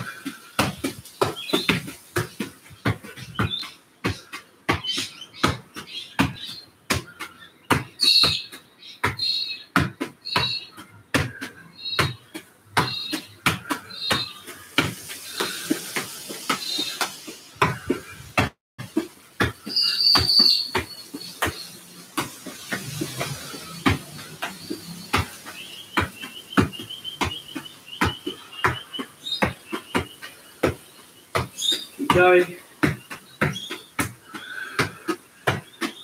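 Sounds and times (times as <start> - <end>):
small birds chirping: 0.1 - 18.3, 19.6 - 36.0
football thuds: 0.1 - 36.0.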